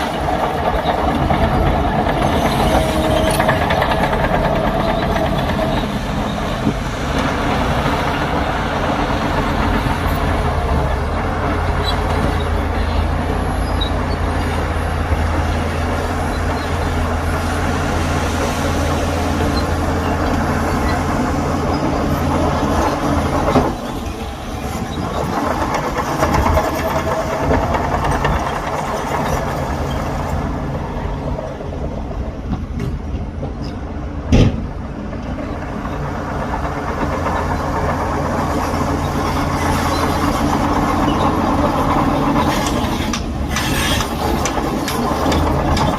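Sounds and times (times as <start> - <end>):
diesel earthmoving machinery running: 0.0 - 45.9.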